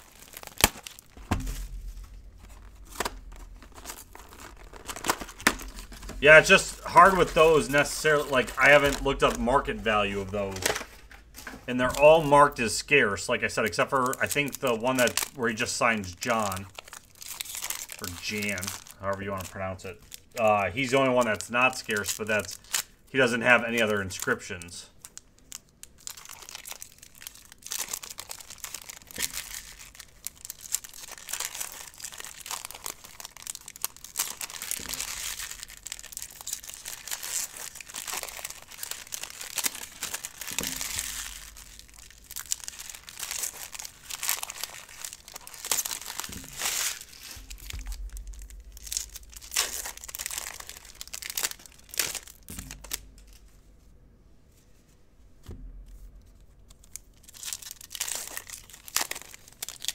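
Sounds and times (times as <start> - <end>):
packaging tearing and crinkling: 0.0 - 53.6, 55.9 - 59.9.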